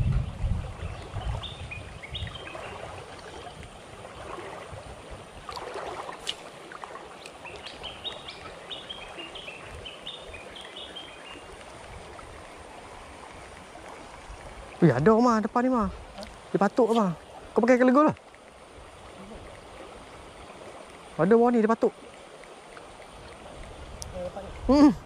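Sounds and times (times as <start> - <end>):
river water rushing: 0.6 - 25.0.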